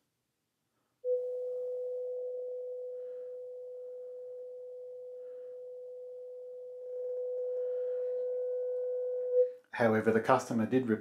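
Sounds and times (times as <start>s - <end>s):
steady sine-wave test tone: 0.0s - 9.9s.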